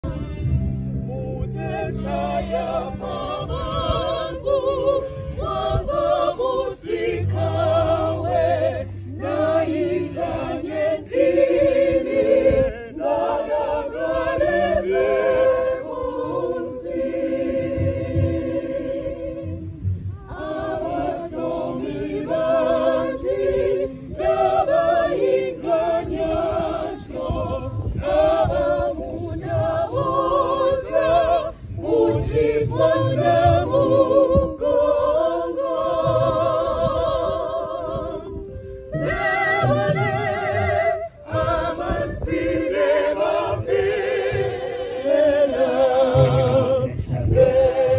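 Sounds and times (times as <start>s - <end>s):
choir singing a hymn: 0.0s - 47.9s.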